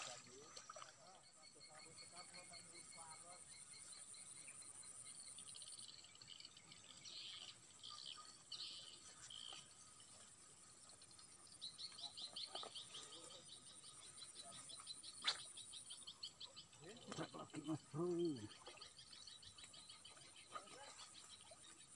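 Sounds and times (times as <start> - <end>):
high wildlife chirps: 0.0 - 21.9.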